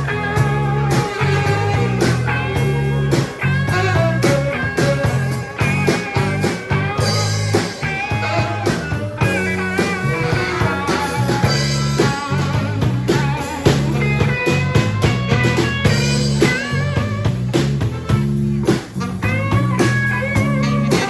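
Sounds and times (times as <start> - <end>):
bass and drums: 0.0 - 21.0
blues guitar bending notes: 0.0 - 21.0.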